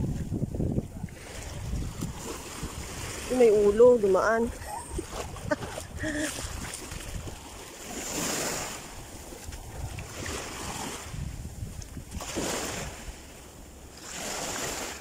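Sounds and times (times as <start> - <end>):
small waves lapping on sand: 0.0 - 15.0.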